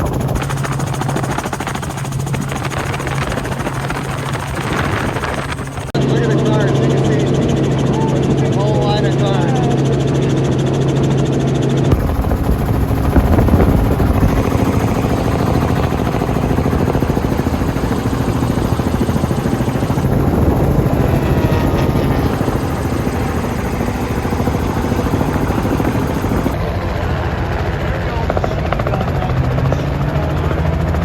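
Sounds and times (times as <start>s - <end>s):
helicopter engine drone: 0.0s - 31.0s
helicopter rotor chop: 0.0s - 31.0s.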